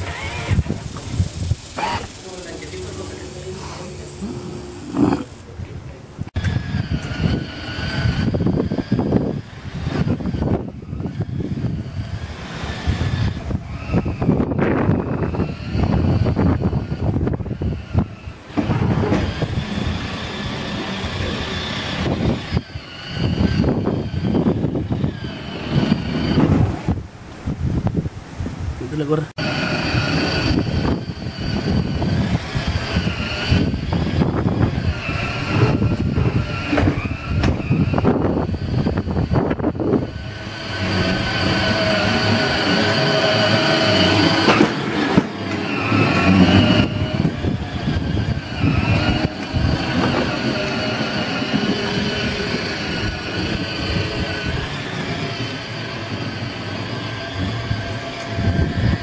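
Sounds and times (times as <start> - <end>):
electric motors whining: 0.0 - 5.5, 6.3 - 27.0, 29.4 - 59.0
wheels rolling on ground: 0.0 - 5.8, 6.4 - 28.4, 29.4 - 59.0.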